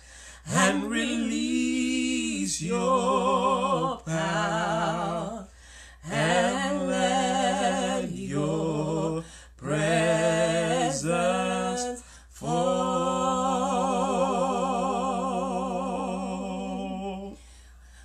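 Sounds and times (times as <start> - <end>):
woman and man singing gospel song: 0.0 - 17.5.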